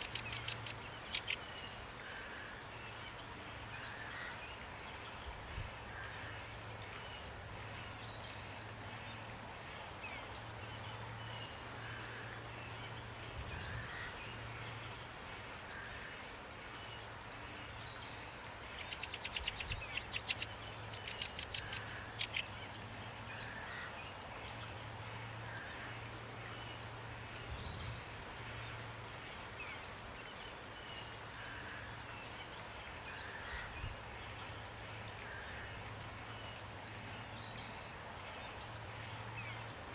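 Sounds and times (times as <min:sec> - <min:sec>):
rain hiss: 0:00.0 - 0:39.9
songbirds chirping: 0:00.0 - 0:39.9.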